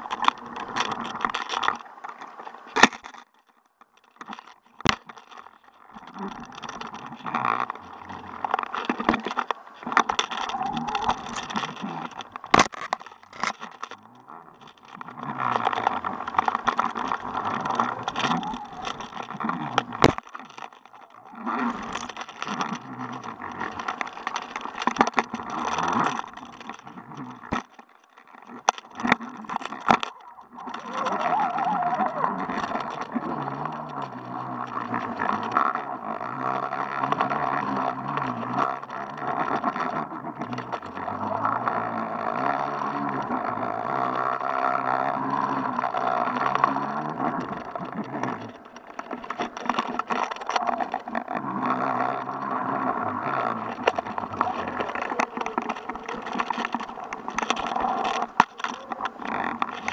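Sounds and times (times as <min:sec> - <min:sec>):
muffled underwater noise: 0:05.4 - 0:59.9.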